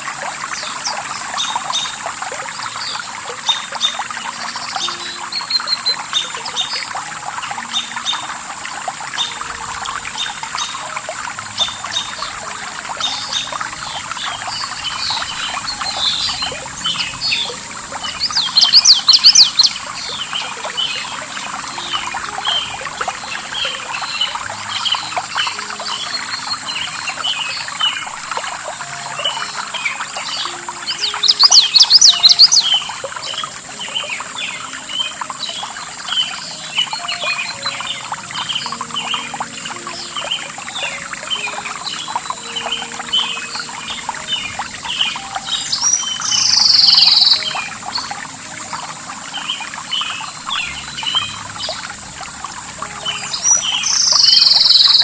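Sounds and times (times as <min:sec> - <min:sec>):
flowing water splashing: 0:00.0 - 0:55.0
small birds chirping: 0:00.0 - 0:55.0.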